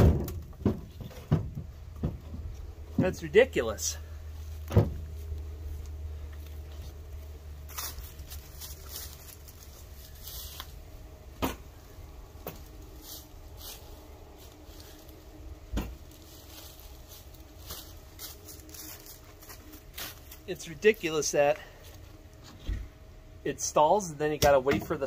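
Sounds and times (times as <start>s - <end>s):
low background noise: 0.0s - 25.0s.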